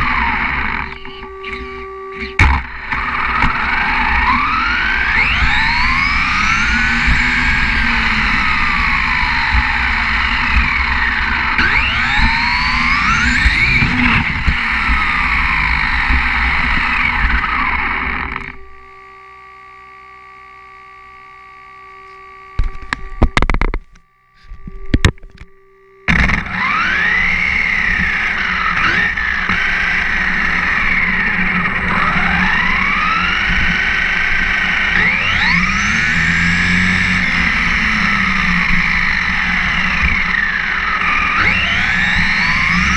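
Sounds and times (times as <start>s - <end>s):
electric motor whining: 0.0s - 42.9s
faint steady hum: 0.0s - 42.9s.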